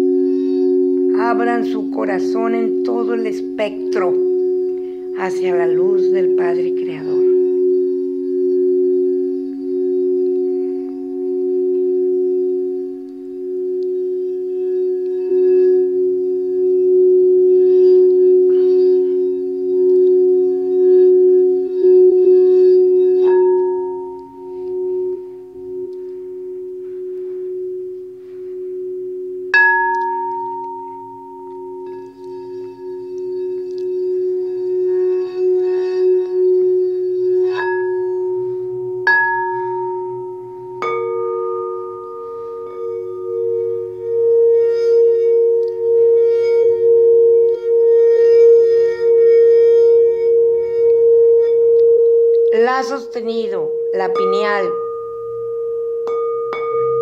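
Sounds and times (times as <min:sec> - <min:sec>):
singing bowl struck: 0:00.0 - 0:57.0
singing bowls ringing: 0:00.0 - 0:57.0.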